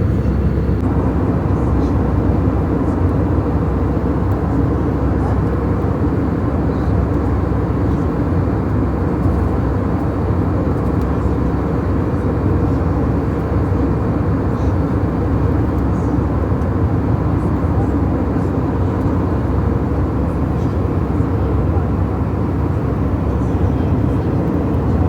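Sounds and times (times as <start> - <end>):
airliner cabin engine noise: 0.0 - 25.0.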